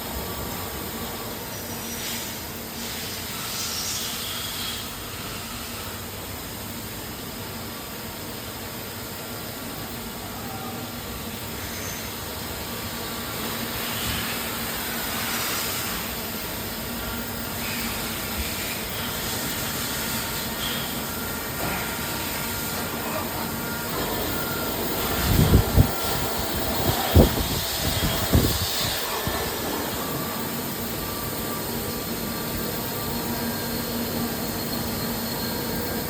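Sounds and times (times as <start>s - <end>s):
machinery hiss and hum: 0.0s - 36.0s.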